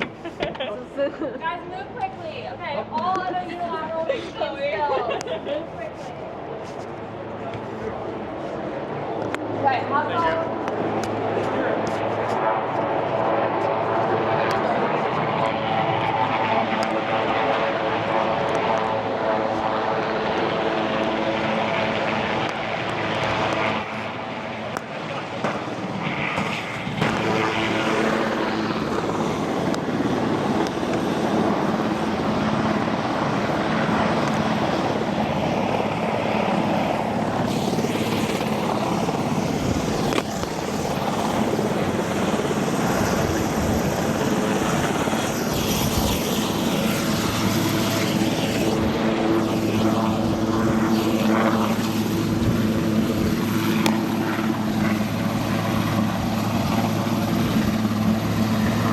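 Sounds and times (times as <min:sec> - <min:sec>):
helicopter turbine and rotor: 0:00.0 - 0:58.9.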